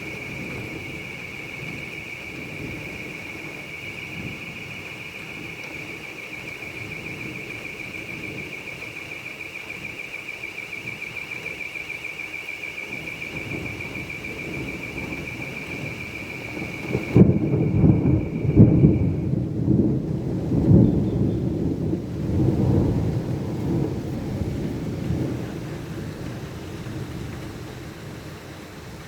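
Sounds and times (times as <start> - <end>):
thunder rumbling: 0.0 - 29.0.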